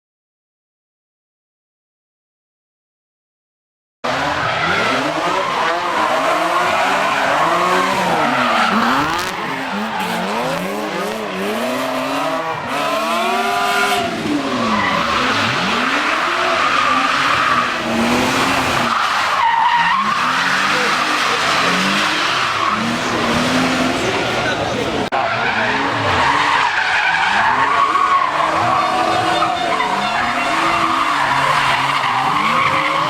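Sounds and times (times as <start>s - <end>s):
car engine revving: 4.0s - 33.0s
tyres squealing: 4.5s - 33.0s.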